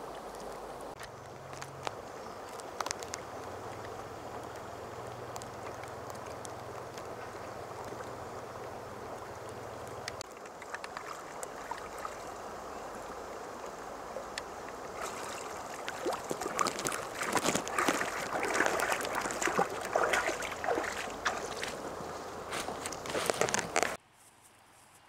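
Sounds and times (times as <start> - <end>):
feet wading through water: 0.0 - 24.0
shallow river flowing: 0.0 - 24.0.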